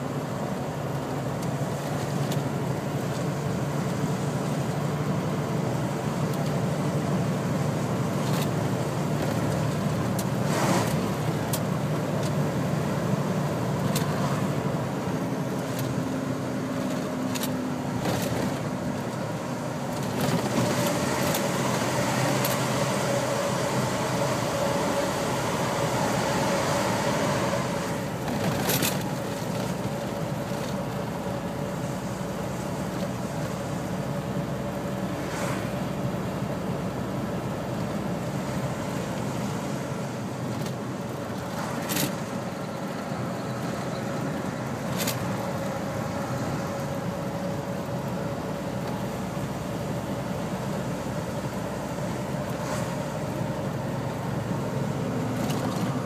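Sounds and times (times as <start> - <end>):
truck engine drone: 0.0 - 56.0
tyre and road noise: 0.0 - 56.0.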